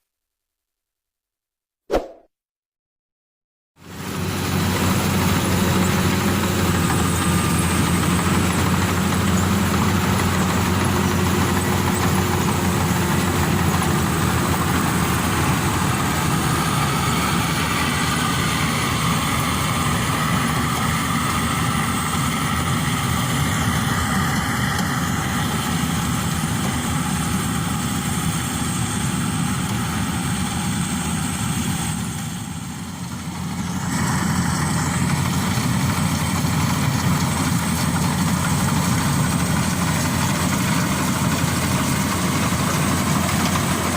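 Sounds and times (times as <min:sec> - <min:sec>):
combine harvester engine running: 0:03.8 - 0:43.9.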